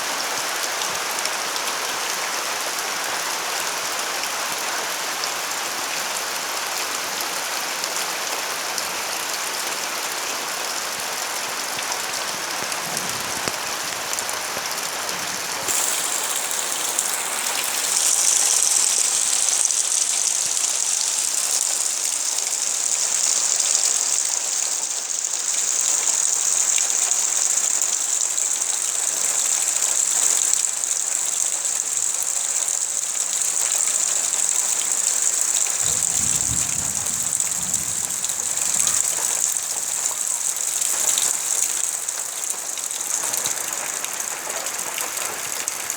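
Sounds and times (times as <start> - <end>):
steady rainfall: 0.0 - 45.9.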